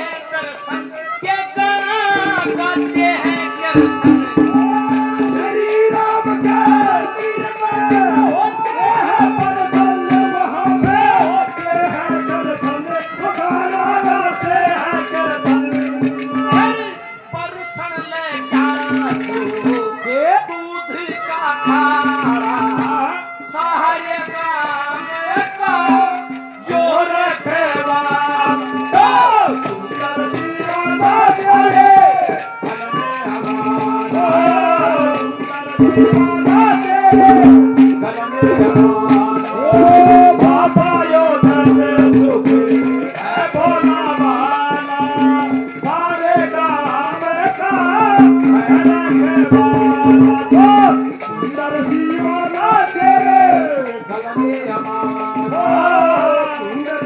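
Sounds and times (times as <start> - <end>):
hand drum and rattle: 0.0 - 57.0
man singing: 0.0 - 57.0.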